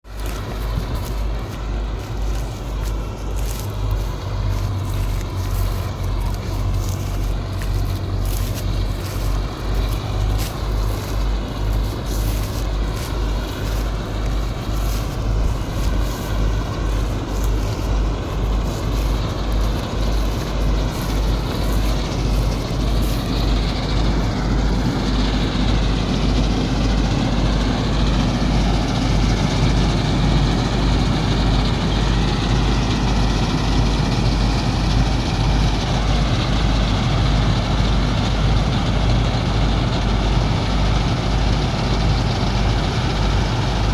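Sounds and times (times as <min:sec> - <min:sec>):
combine harvester engine running: 0:00.0 - 0:43.9.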